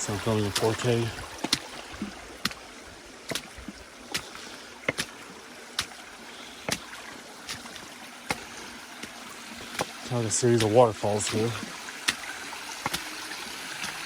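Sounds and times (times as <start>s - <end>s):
footsteps splashing in water: 0.0s - 13.2s
creek water running over rock: 0.0s - 14.0s.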